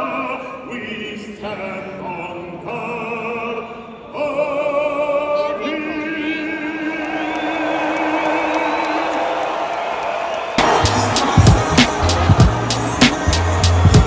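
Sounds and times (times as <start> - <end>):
operatic singing with vibrato: 0.0 - 14.0.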